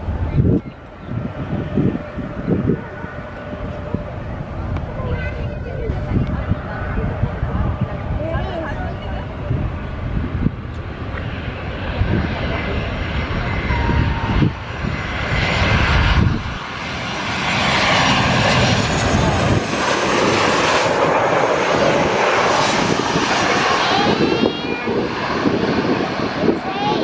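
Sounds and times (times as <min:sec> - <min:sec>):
jet airliner engine rumble: 0:00.0 - 0:27.0.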